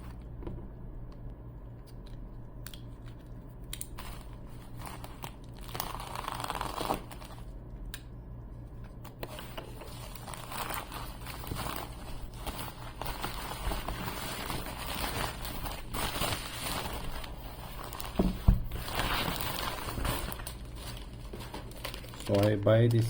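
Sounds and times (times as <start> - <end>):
packaging rustling and crinkling: 2.9 - 7.6, 9.1 - 23.0.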